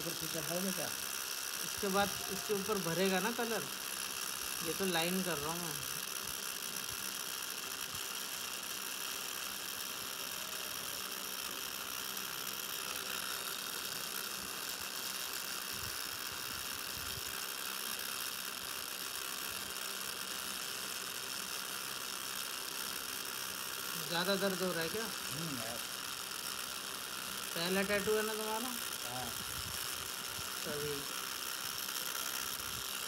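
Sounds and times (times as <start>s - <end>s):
tattoo machine running: 0.0s - 33.0s.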